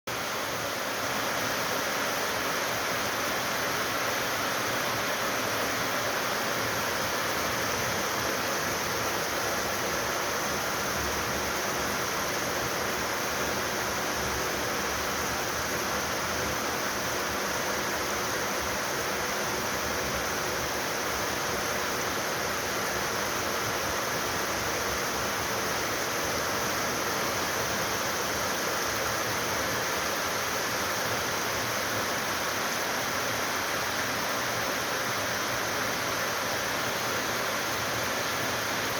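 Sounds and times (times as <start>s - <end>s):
steady rain hiss: 0.1s - 38.9s.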